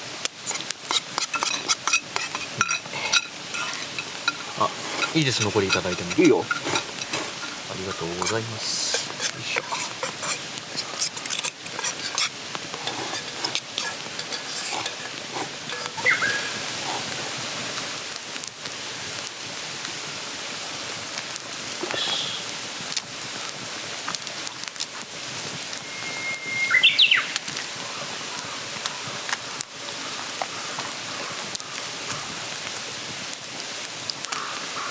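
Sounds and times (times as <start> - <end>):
mountain stream rushing: 0.0 - 29.2.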